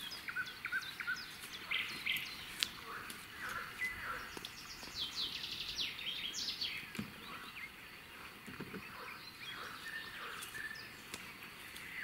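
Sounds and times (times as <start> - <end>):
outdoor background hiss: 0.0 - 12.0
small bird singing: 0.0 - 12.0.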